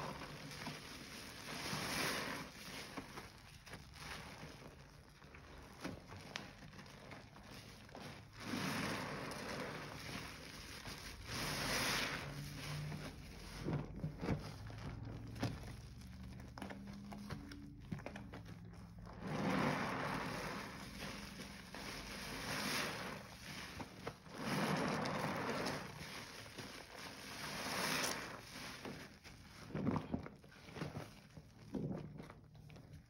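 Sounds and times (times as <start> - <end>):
small crackles: 0.0 - 33.0
wet sponge squishing: 0.0 - 33.0.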